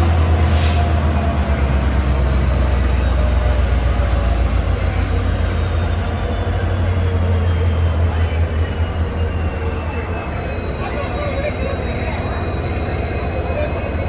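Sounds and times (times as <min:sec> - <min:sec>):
diesel locomotive engine hum: 0:00.0 - 0:14.0.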